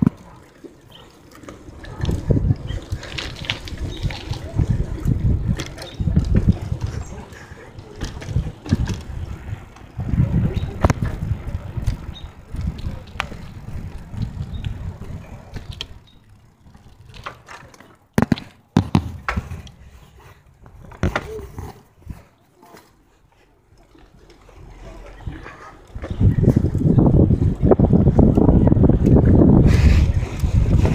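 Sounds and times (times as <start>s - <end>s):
bicycle riding rumble: 0.0s - 30.9s.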